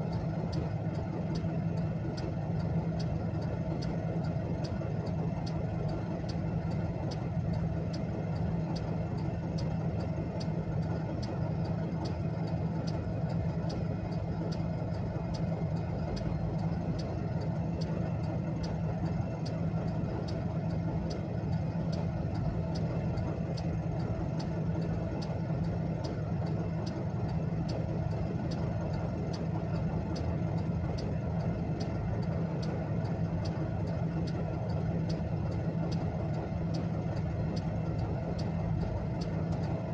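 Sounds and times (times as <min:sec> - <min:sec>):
engine idling hum: 0:00.0 - 0:39.9
hazard-light flasher ticking: 0:00.0 - 0:39.9.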